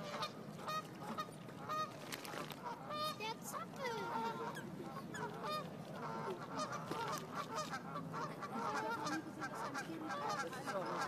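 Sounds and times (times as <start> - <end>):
geese honking: 0.0 - 2.0, 2.6 - 11.0.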